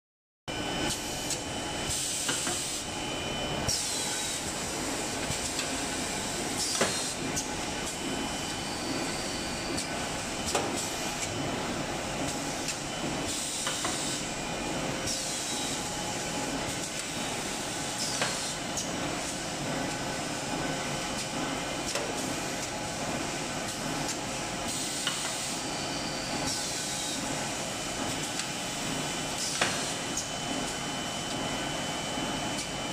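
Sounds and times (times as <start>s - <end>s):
machine running: 0.5s - 32.9s.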